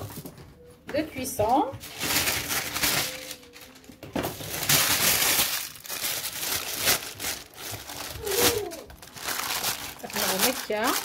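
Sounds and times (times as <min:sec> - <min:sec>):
baking paper crinkling: 0:00.0 - 0:11.0.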